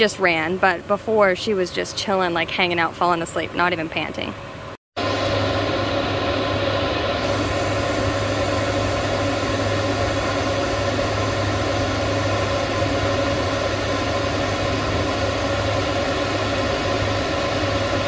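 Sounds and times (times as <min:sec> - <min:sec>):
electric fans blowing air: 0:00.0 - 0:18.0
steady low hum: 0:00.0 - 0:18.0.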